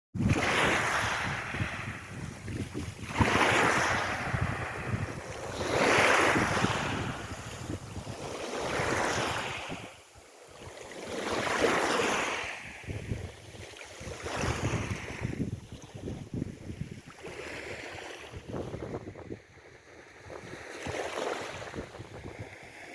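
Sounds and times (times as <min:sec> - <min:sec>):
wind buffeting microphone: 0:00.2 - 0:10.0, 0:11.2 - 0:22.9
sea waves washing in: 0:00.2 - 0:22.9.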